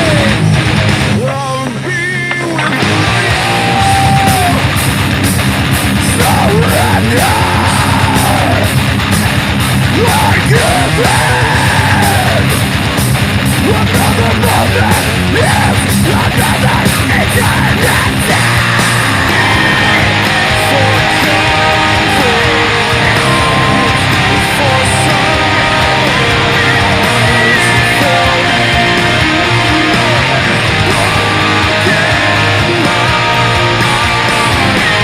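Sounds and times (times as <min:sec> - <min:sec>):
person singing and yelling: 0:00.0 - 0:00.5, 0:01.1 - 0:04.8, 0:06.0 - 0:08.8, 0:09.8 - 0:12.7, 0:13.6 - 0:35.0
distorted electric guitar: 0:00.0 - 0:35.0
driving drum beat: 0:00.0 - 0:35.0.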